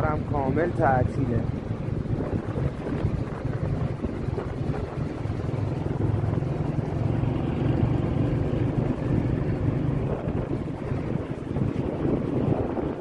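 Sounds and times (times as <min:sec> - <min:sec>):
vehicle rumble: 0:00.0 - 0:13.0
wind buffeting microphone: 0:00.0 - 0:13.0.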